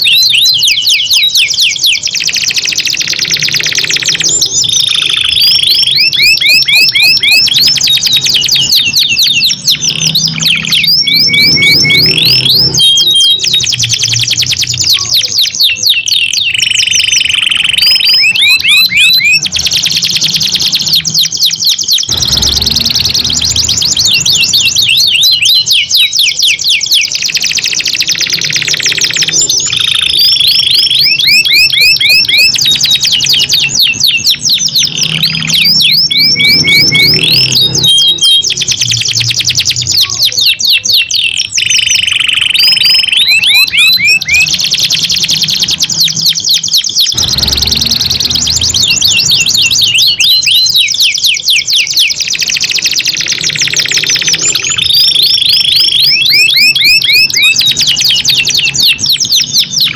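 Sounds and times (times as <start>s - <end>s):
canaries trilling: 0.0s - 59.9s.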